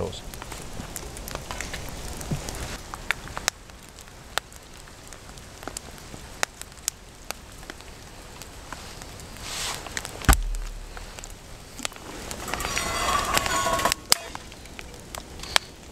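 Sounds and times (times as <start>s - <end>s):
wood fire crackling and popping: 0.0s - 15.9s.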